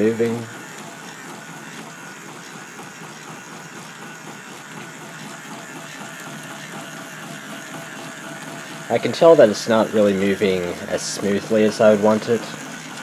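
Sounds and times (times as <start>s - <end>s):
toy motor and gears rattling: 0.0s - 13.0s.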